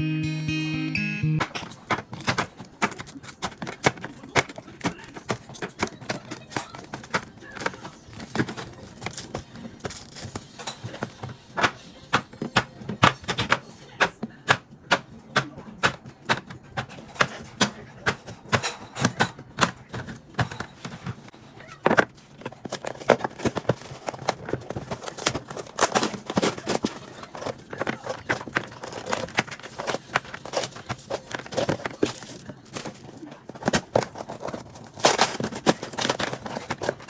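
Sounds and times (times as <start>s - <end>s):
containers clicking and knocking: 1.4s - 37.0s.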